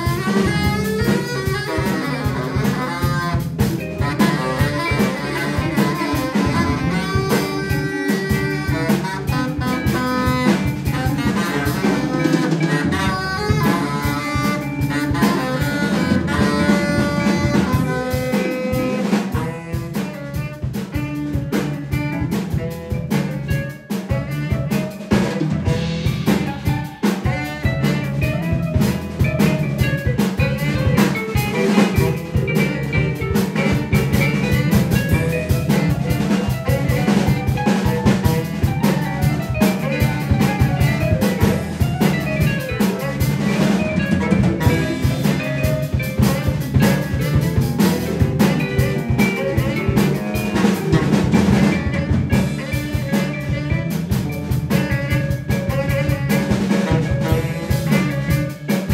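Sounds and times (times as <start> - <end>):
bass: 0.0 - 58.9
busy drumming: 0.0 - 58.9
keyboard: 0.0 - 58.9
saxophone melody: 0.0 - 58.9.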